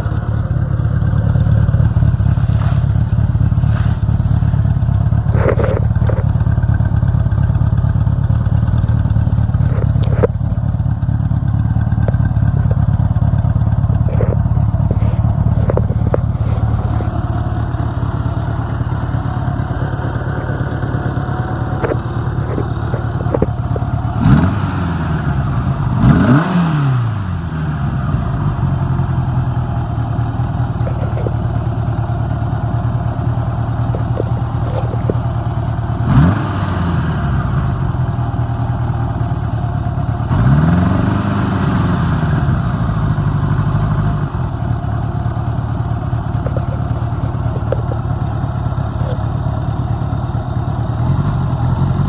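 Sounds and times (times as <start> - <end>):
motorcycle engine idling and revving: 0.0 - 52.0.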